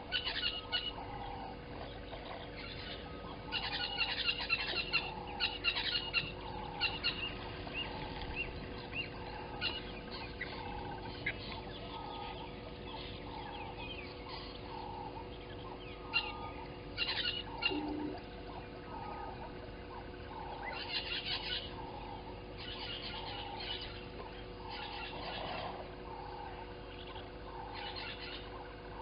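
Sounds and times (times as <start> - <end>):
low repeating bird call: 0.0 - 29.0.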